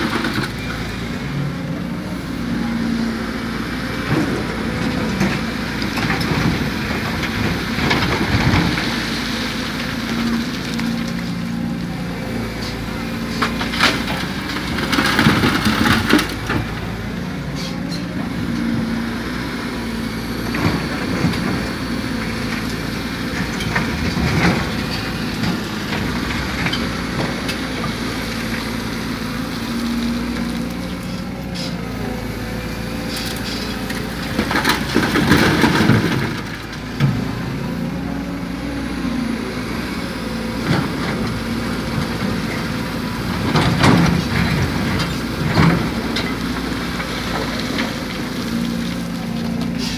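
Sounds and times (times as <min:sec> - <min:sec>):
excavator diesel engine running: 0:00.0 - 0:49.9
soil and rubble dumped into truck: 0:02.2 - 0:49.9.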